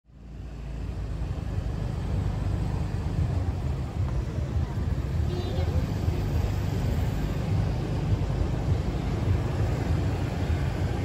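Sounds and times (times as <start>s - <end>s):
motorbikes passing: 0.1s - 11.0s.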